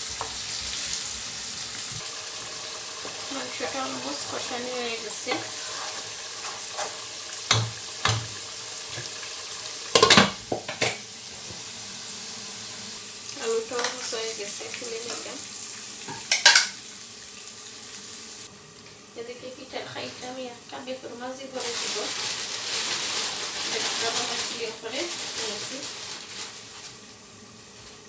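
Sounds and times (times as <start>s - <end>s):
oil sizzling: 0.0s - 28.0s.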